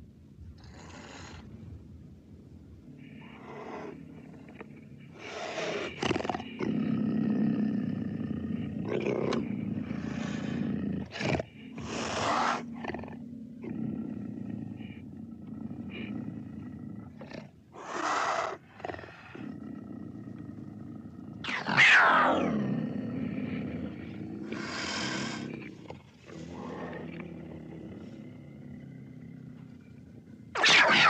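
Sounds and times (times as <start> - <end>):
cougar growling and hissing: 0.6 - 1.6, 2.9 - 31.0.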